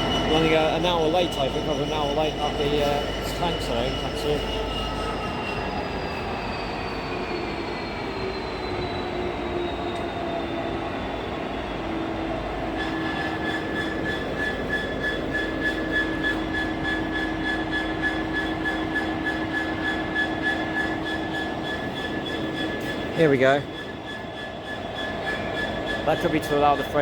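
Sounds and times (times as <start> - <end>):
train whine falling in pitch: 0.0 - 27.0.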